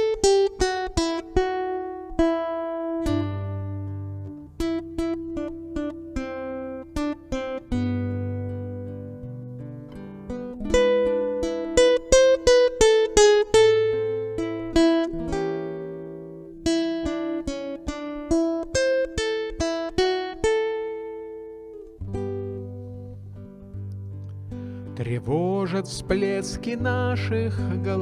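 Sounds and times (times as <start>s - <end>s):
acoustic guitar melody: 0.0s - 28.0s.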